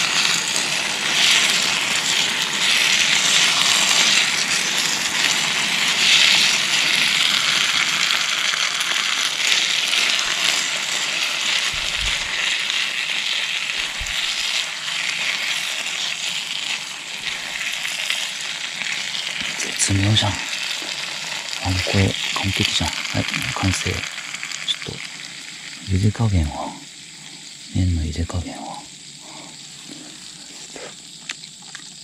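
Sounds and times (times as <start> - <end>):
food sizzling in a pan: 0.0 - 32.0.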